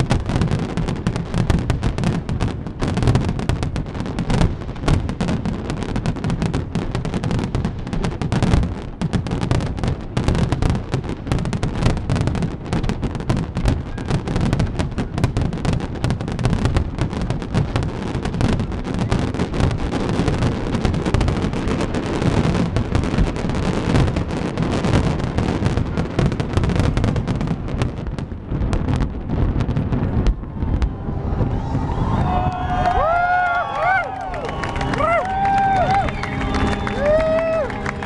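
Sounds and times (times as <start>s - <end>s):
deep firework booms: 0.0s - 38.0s
firework shell bursts and crackle: 0.0s - 38.0s.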